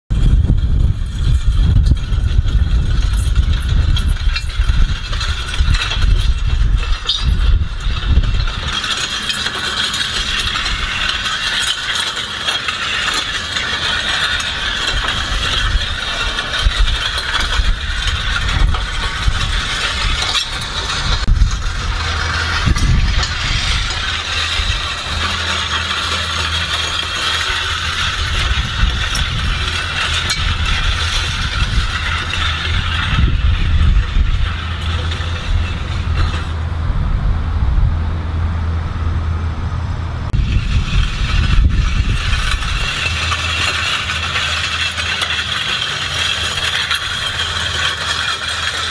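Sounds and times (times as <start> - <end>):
metal sled scraping on asphalt: 0.1 - 48.9.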